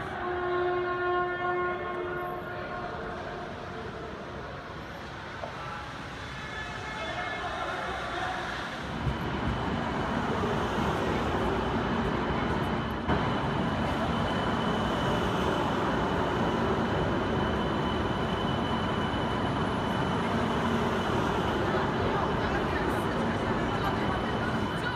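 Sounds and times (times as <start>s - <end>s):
train running noise: 0.0s - 24.9s.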